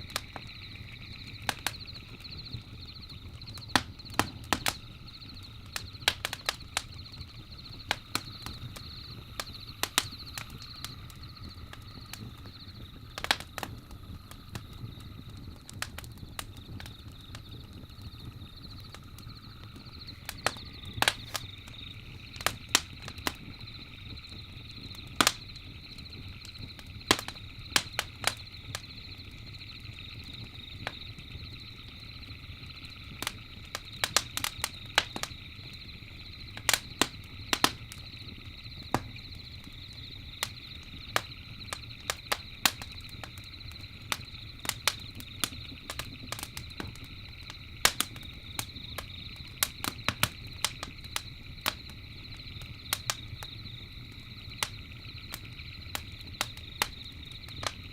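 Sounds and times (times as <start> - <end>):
campfire crackling: 0.0 - 57.9
crickets chirping: 0.0 - 57.9
low fire rumble: 0.0 - 57.9.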